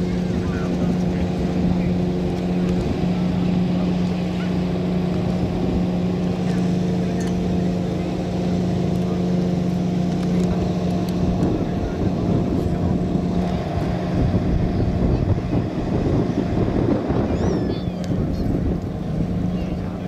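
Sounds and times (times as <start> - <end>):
piston aircraft engine droning: 0.0 - 20.0.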